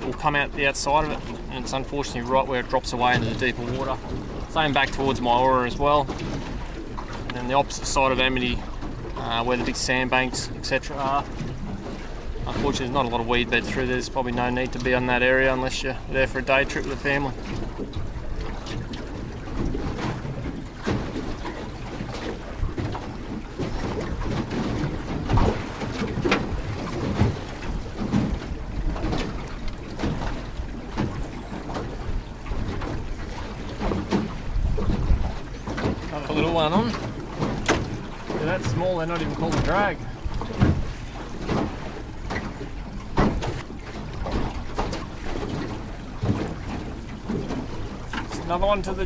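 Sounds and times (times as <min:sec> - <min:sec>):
outboard motor running: 0:00.0 - 0:49.0
water slapping against hull: 0:00.0 - 0:49.0
wind buffeting microphone: 0:00.0 - 0:49.0.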